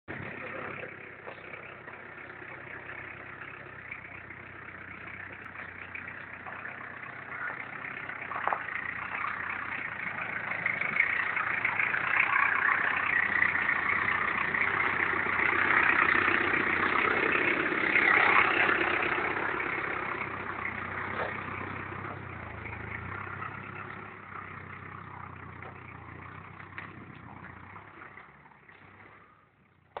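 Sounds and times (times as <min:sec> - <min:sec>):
car engine driving through mud: 0:00.1 - 0:30.0.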